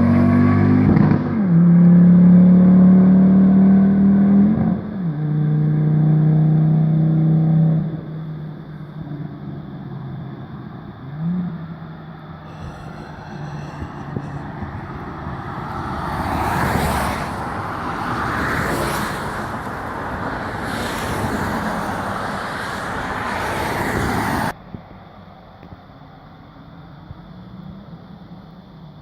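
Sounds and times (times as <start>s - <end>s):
turbocharged car engine: 0.0s - 24.6s.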